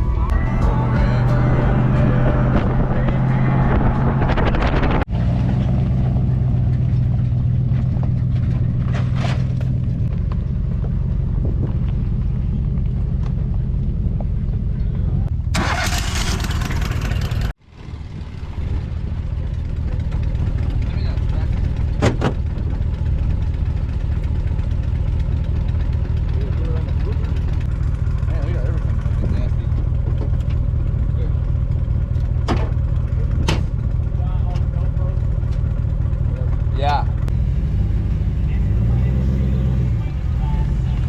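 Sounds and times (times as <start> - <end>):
vehicle engine and road drone: 0.0 - 41.0.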